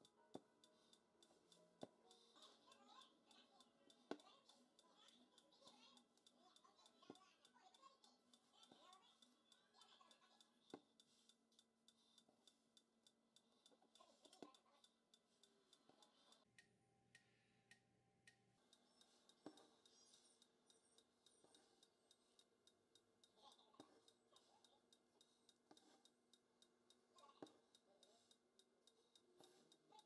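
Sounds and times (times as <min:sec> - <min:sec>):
light regular ticking: 0:00.0 - 0:30.0.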